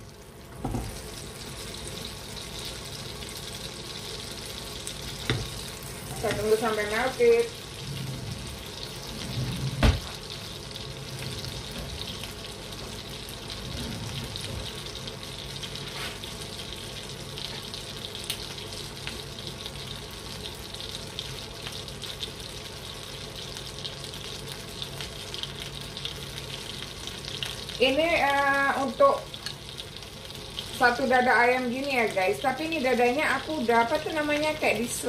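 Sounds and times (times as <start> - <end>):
butter sizzling in a frying pan: 0.0 - 35.0.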